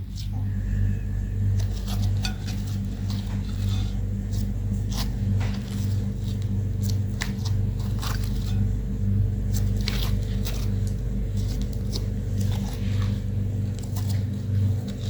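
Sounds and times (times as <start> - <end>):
steady low hum: 0.0 - 15.0
slime being kneaded by hand: 1.4 - 15.0.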